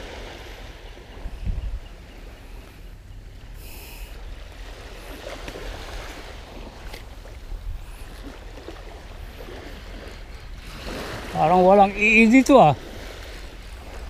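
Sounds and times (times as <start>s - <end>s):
small waves washing on shore: 0.0s - 14.0s
wind rumbling on microphone: 0.0s - 14.0s.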